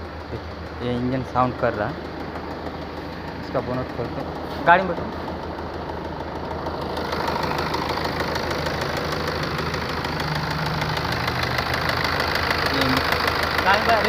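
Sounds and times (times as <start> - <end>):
diesel engine knocking: 0.0 - 14.0.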